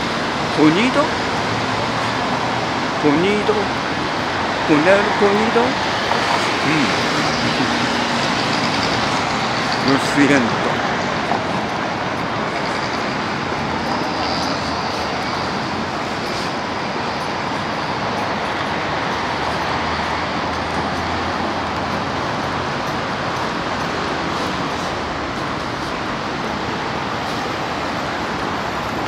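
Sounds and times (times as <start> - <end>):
city road traffic: 0.0 - 29.0.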